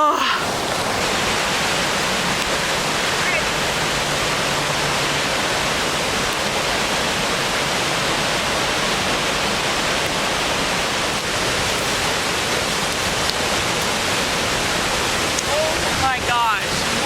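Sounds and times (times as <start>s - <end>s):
large waterfall rushing: 0.0s - 17.0s.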